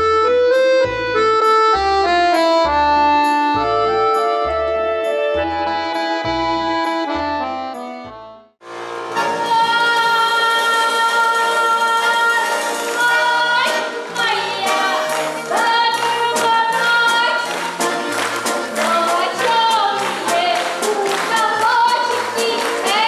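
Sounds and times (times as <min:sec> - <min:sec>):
accordion playing: 0:00.0 - 0:23.0.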